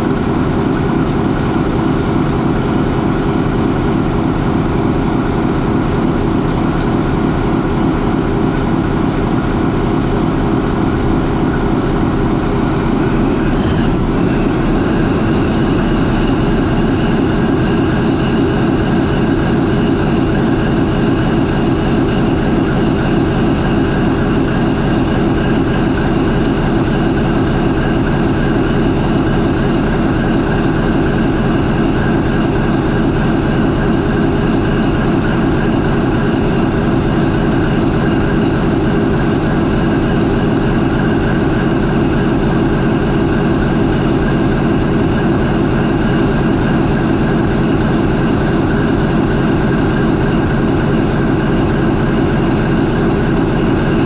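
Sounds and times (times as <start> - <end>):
marine diesel engine idling: 0.0 - 54.0.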